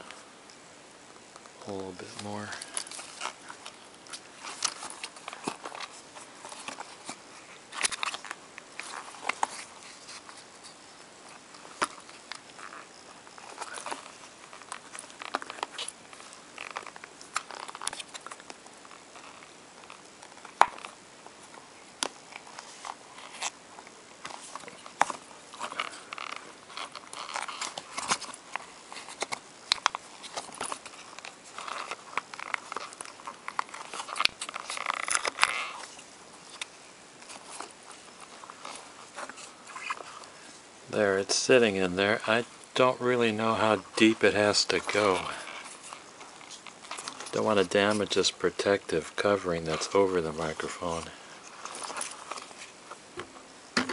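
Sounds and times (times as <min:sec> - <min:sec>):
rubber mask rubbing and crackling: 0:00.0 - 0:53.9.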